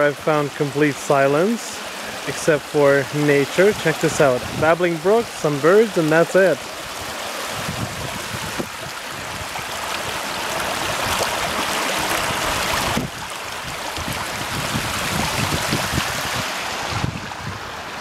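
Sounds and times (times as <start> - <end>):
creek babbling over rocks: 0.0 - 18.0.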